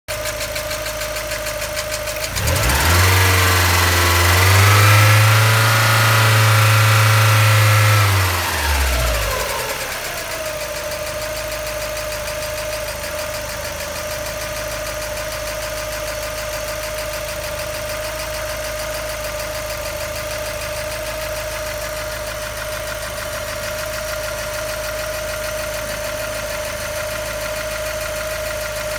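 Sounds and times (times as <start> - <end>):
car engine idling: 0.1 - 28.9.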